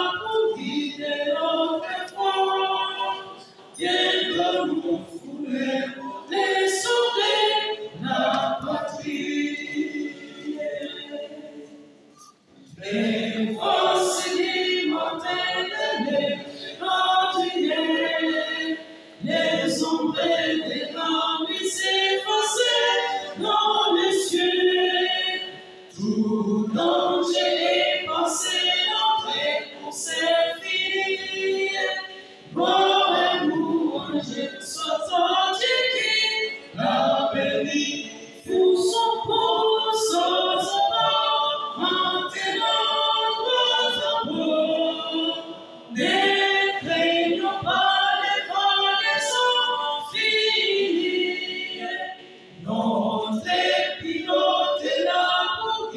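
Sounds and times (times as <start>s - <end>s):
male ensemble singing in harmony: 0.0s - 55.9s.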